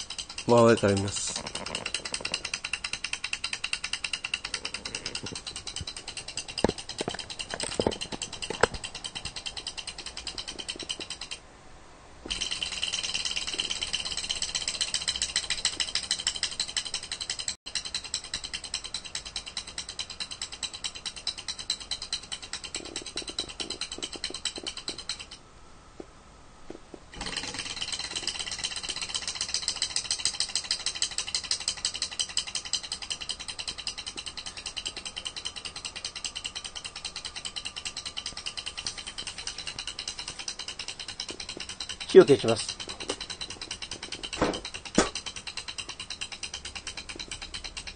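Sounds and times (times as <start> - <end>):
model engine mechanical clatter: 0.0 - 11.4, 12.3 - 25.4, 27.1 - 47.9.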